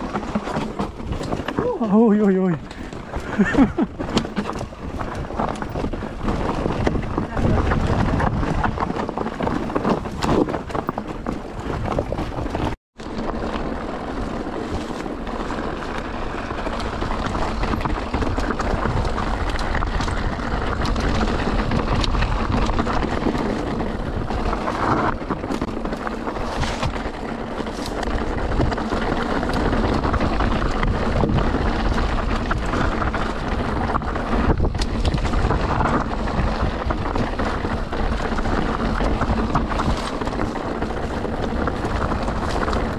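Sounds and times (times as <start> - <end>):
wind buffeting microphone: 0.0 - 12.8, 15.8 - 42.9
bike rattling on rocks: 0.0 - 42.9
bike tyre noise: 0.0 - 42.9.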